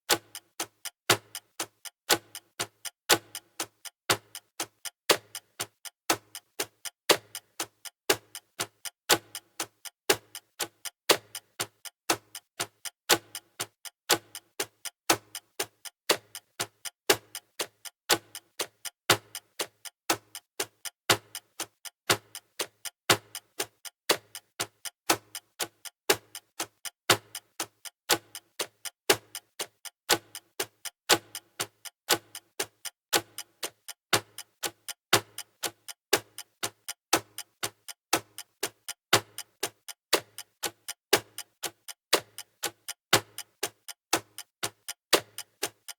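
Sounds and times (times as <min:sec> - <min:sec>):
clock ticking: 0:00.1 - 0:45.9.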